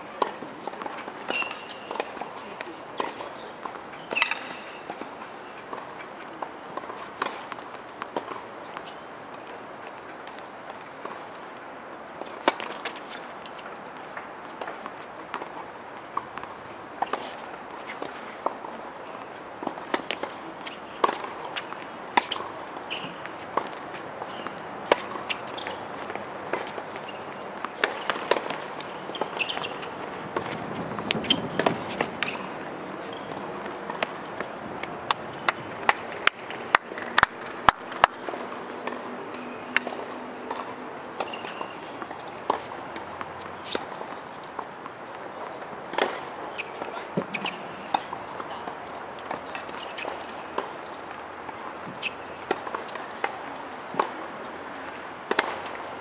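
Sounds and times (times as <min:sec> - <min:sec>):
tennis ball hit and bouncing: 0:00.2 - 0:05.1, 0:06.7 - 0:08.9, 0:12.2 - 0:15.6, 0:16.2 - 0:45.0, 0:45.9 - 0:55.8.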